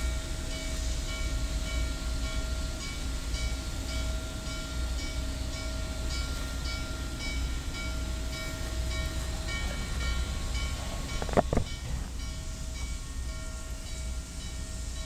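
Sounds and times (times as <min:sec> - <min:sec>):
steam locomotive exhaust chuffs: 0:00.0 - 0:15.0.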